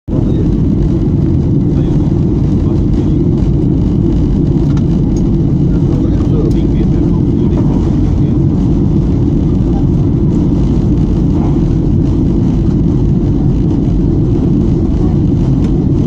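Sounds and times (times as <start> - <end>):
air rushing past fuselage: 0.1 - 16.0
jet engines rumbling: 0.1 - 16.0.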